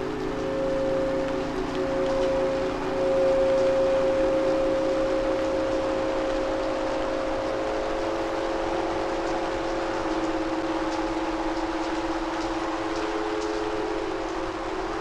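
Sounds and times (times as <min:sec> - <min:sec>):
steady held drone tones: 0:00.0 - 0:15.0
faint light ticks: 0:00.1 - 0:07.3, 0:08.9 - 0:14.6.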